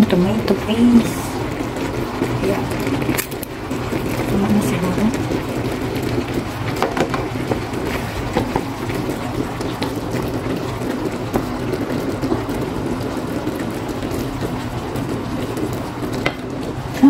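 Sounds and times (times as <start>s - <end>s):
spatula stirring and scraping sauce: 0.2s - 17.0s.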